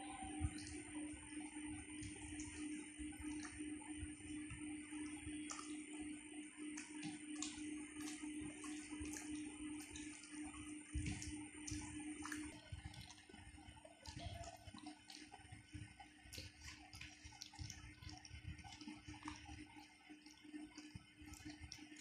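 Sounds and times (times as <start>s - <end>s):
low hum: 0.0s - 22.0s
wet clicks and smacks: 1.6s - 6.0s, 6.6s - 22.0s.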